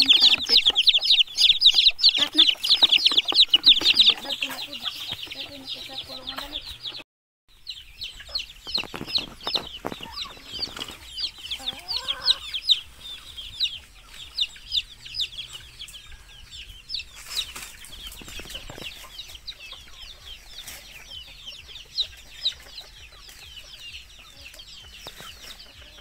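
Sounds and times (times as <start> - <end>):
hen clucking: 0.0 - 7.0, 7.6 - 26.0
chicks peeping: 0.0 - 26.0.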